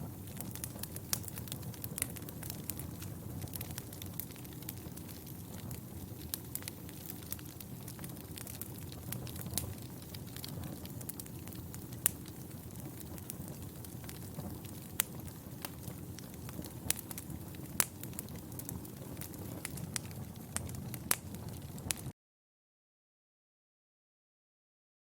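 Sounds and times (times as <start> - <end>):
fire burning with crackles: 0.0 - 22.1.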